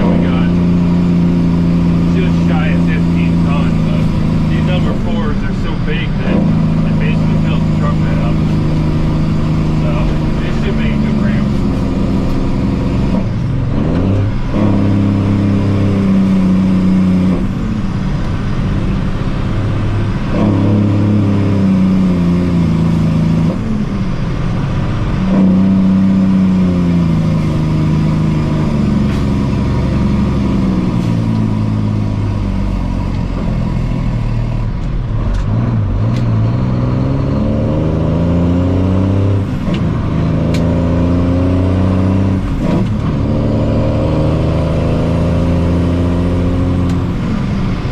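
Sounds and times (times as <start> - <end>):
diesel engine revving: 0.0 - 47.9.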